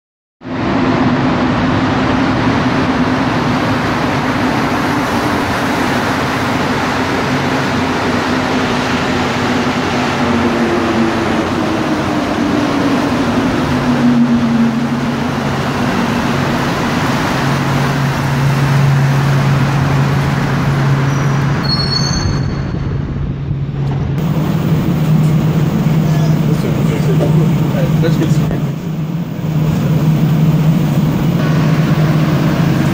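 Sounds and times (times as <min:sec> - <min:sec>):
metro train braking: 0:00.5 - 0:32.9.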